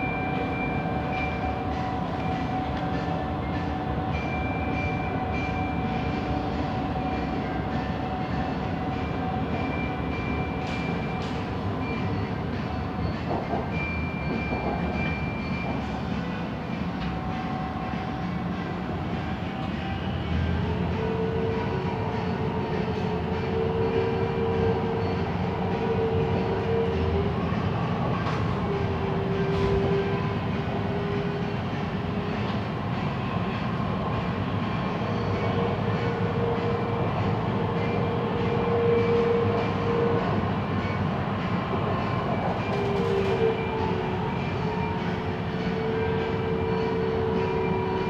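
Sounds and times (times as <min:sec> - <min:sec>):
metro train rumble and whine: 0:00.0 - 0:48.0.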